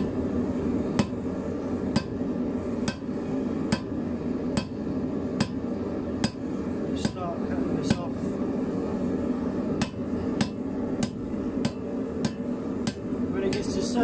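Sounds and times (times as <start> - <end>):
steady background hum: 0.0 - 14.0
hammer striking hot steel: 0.8 - 8.2, 9.7 - 13.9.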